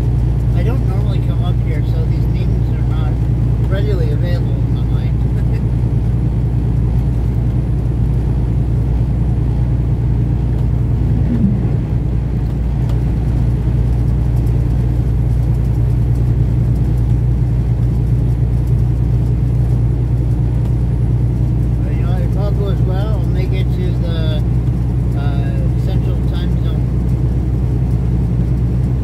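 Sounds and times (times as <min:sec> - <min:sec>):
road rumble: 0:00.0 - 0:29.0
truck diesel engine drone: 0:00.0 - 0:29.0.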